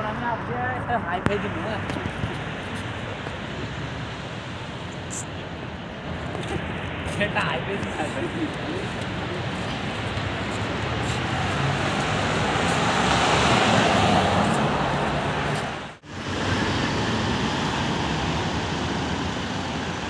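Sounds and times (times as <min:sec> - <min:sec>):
tyres and wind rushing: 0:00.0 - 0:20.0.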